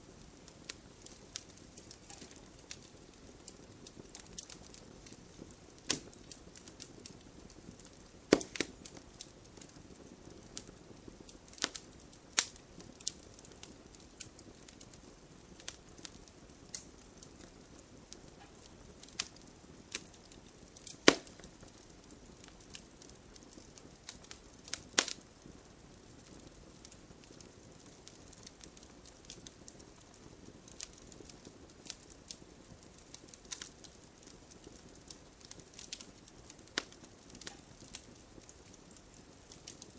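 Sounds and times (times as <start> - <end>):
fire hiss: 0.0 - 39.9
wood fire crackling: 0.0 - 39.9.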